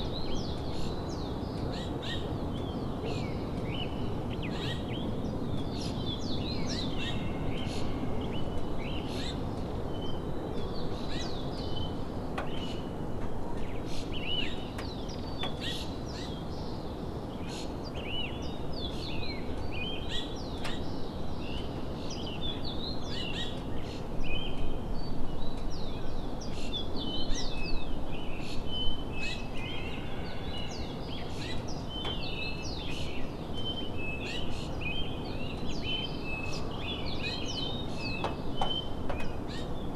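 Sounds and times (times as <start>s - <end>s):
birds chirping: 0.0s - 39.9s
outdoor background hiss: 0.0s - 39.9s.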